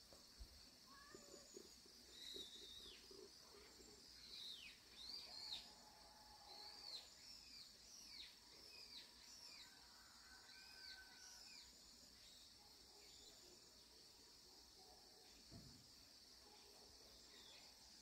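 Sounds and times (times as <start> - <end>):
faint high hiss: 0.0 - 18.0
faint bird chirps: 0.4 - 18.0.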